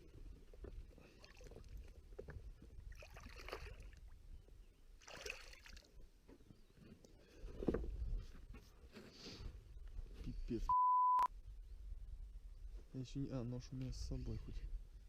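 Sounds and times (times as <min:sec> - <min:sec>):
faint water around boat: 0:00.0 - 0:15.0.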